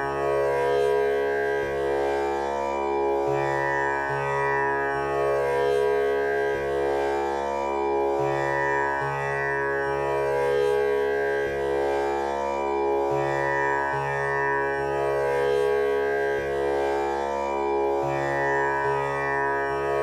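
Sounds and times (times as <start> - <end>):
tanpura drone: 0.0 - 20.0.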